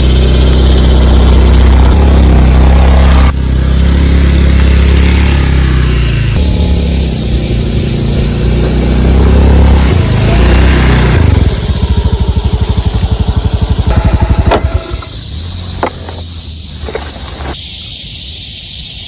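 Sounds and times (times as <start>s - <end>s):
small engine puttering: 0.0s - 17.6s.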